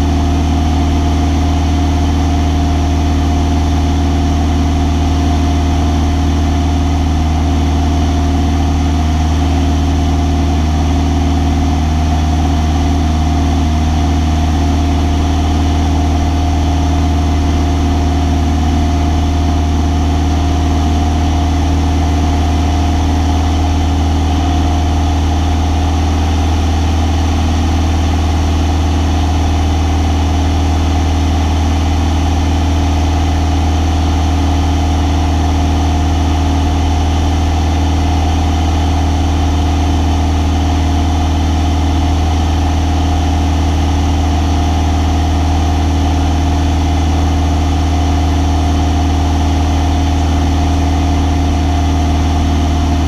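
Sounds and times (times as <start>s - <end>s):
light aircraft engine inside cabin: 0.0s - 53.0s.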